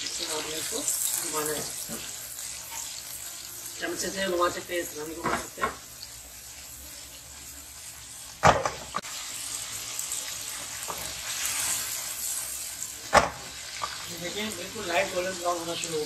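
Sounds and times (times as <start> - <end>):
meatballs sizzling in hot oil: 0.0 - 16.0.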